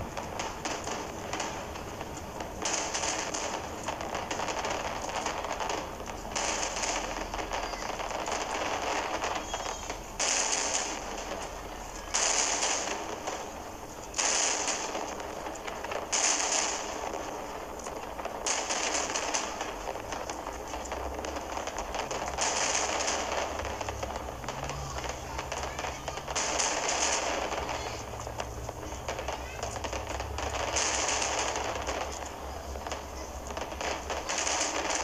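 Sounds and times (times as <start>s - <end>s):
aerial fireworks crackling: 0.0s - 35.0s.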